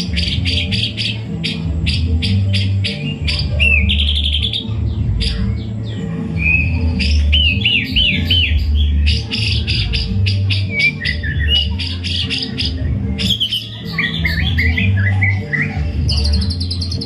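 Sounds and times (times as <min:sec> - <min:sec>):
backing music with bass: 0:00.0 - 0:17.0
bird singing whistled notes: 0:00.0 - 0:17.0.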